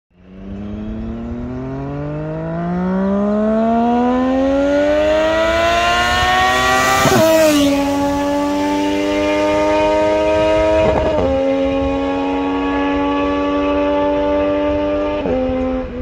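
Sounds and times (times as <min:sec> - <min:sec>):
motorcycle accelerating past: 0:00.2 - 0:16.0.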